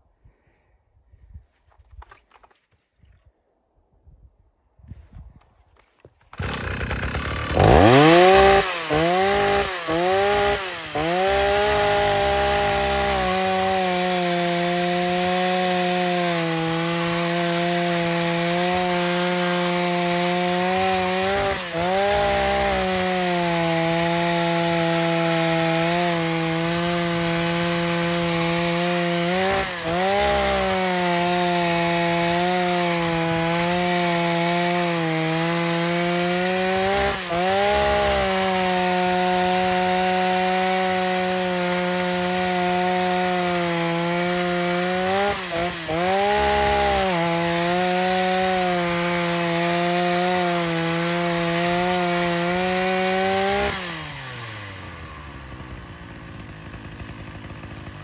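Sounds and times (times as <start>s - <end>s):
chainsaw cutting log: 5.8s - 58.0s.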